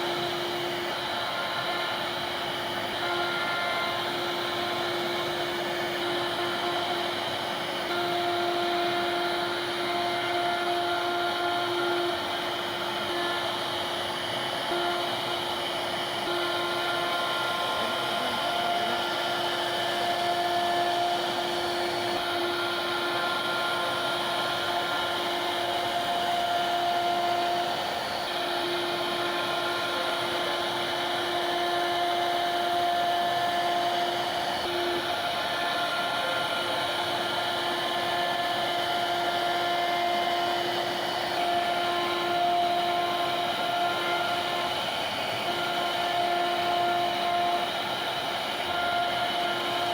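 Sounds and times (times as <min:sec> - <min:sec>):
router spindle cutting wood: 0:00.0 - 0:49.9.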